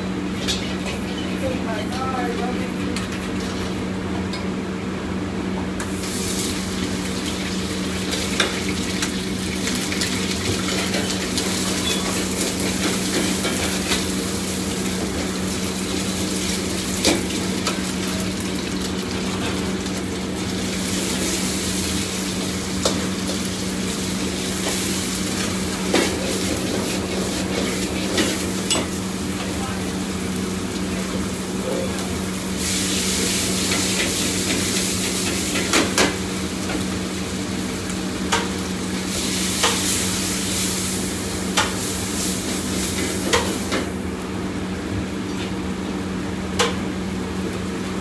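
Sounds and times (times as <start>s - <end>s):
food sizzling in a wok: 5.8s - 48.0s.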